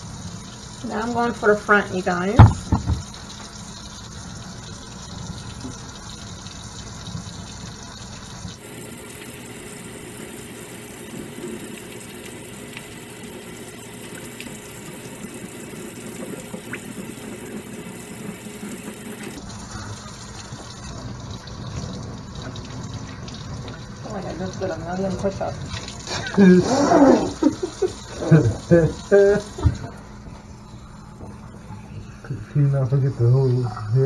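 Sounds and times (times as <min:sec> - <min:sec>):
faucet running into steel sink: 0:00.0 - 0:34.0.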